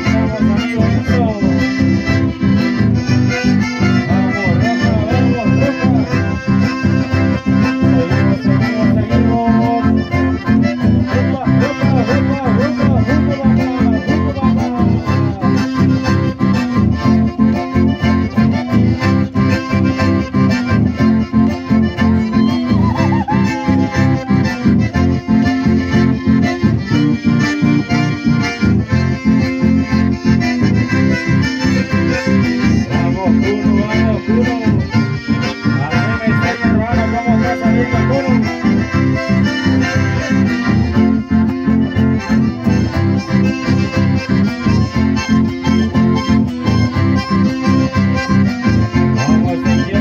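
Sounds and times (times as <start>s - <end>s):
acoustic guitar accompaniment: 0.0s - 50.0s
button accordions playing melody: 0.0s - 50.0s.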